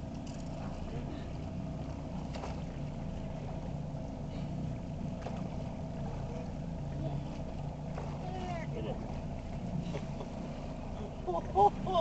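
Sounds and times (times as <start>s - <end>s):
boat motor rumbling: 0.0s - 12.0s
faint water splashes: 0.0s - 12.0s.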